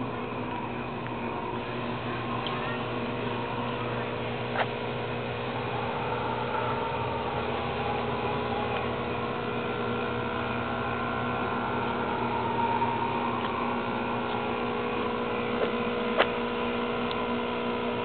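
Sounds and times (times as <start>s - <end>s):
hum of fixed tones: 0.0s - 18.0s
low whirring noise: 0.0s - 18.0s.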